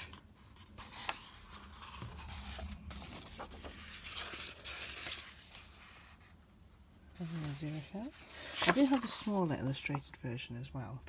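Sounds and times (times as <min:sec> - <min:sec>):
book pages rustling: 0:00.0 - 0:06.4, 0:07.1 - 0:10.1.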